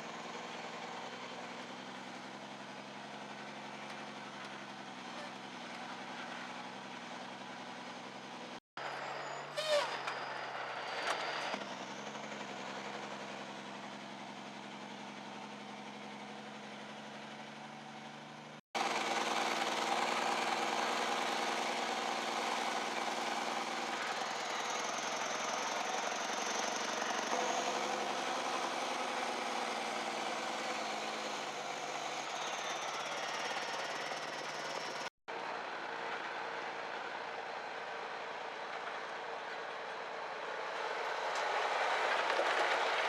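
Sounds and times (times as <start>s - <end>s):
diesel truck engine running: 0.0s - 43.0s
gravel road and rattle noise: 0.0s - 43.0s.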